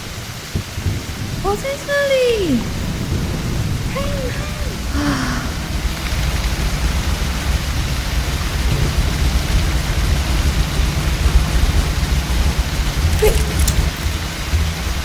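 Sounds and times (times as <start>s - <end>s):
continuous low rumble: 0.0s - 15.0s
heavy rain: 0.0s - 15.0s.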